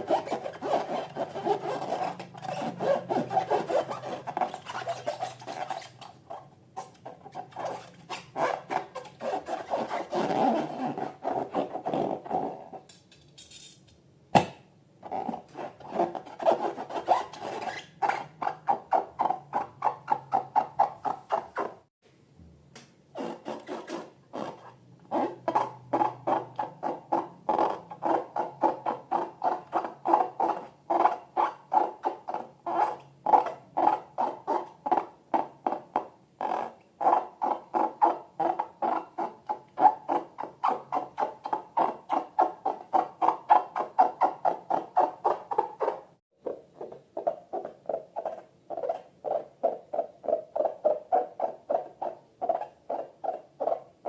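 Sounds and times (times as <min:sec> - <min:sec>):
rubber balloons squeaking: 0:00.0 - 0:12.8, 0:15.0 - 0:21.9, 0:23.1 - 0:35.1, 0:35.8 - 0:53.9.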